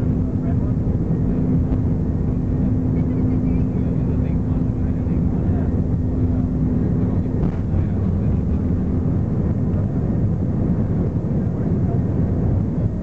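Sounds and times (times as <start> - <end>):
jet engines rumbling in cabin: 0.0 - 13.0
steady hum: 0.0 - 13.0.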